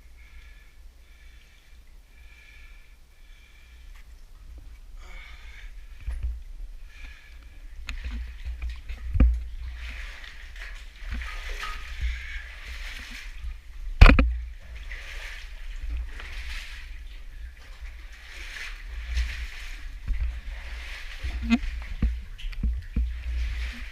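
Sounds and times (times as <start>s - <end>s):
water sloshing and splashing: 0.0s - 23.9s.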